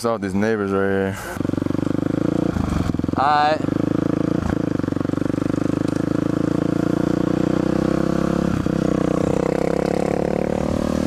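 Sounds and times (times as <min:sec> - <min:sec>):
dirt bike engine running: 0:01.2 - 0:11.0.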